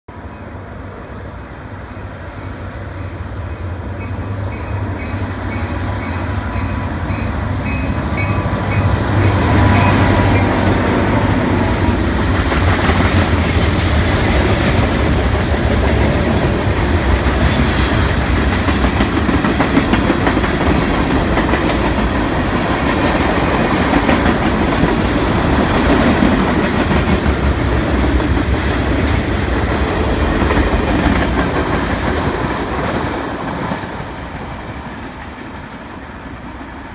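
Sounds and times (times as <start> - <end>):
diesel locomotive engine rumble: 0.1 - 36.9
train wheels clacking on rails: 4.0 - 36.2.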